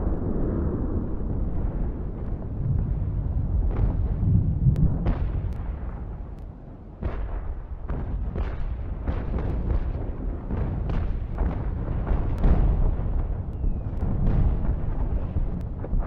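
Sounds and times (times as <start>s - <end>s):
distant cannon fire rumble: 0.0s - 16.0s.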